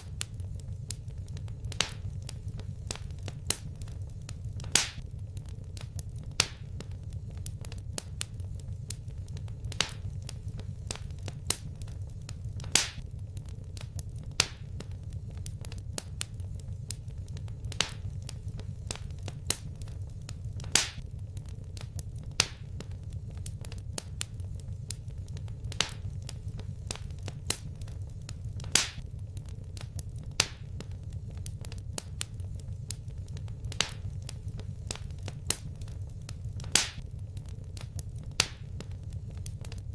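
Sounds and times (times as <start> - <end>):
sharp pops of fire: 0.0 - 39.9
steady low rumble: 0.0 - 39.9
wood fire crackling: 0.0 - 39.9.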